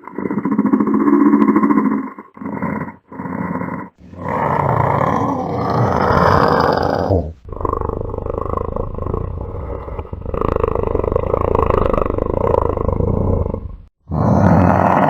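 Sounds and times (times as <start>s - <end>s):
deep rough monster growl: 0.0s - 15.0s.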